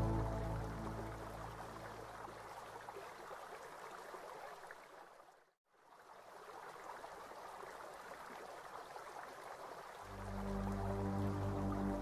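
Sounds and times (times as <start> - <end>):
faint running water: 0.0 - 12.0.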